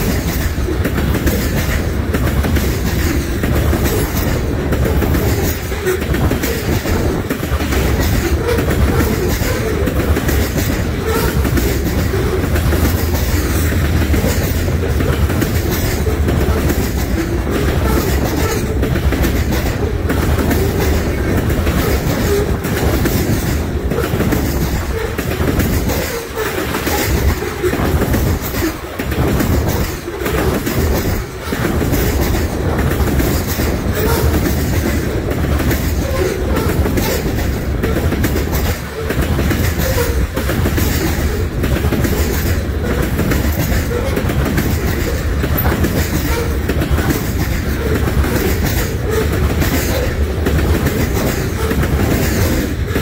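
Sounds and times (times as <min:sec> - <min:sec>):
train wheels rumbling on rail: 0:00.0 - 0:53.0
wheels clickety-clack on track: 0:00.0 - 0:53.0.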